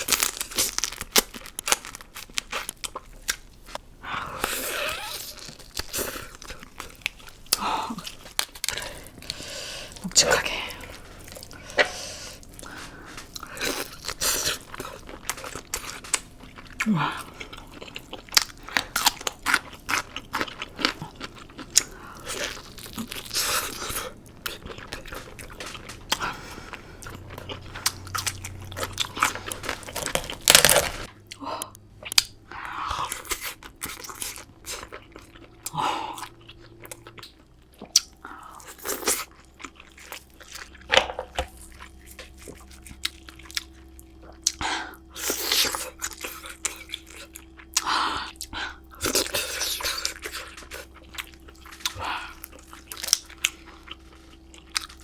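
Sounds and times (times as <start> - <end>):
chewing and crunching crab: 0.0 - 55.0.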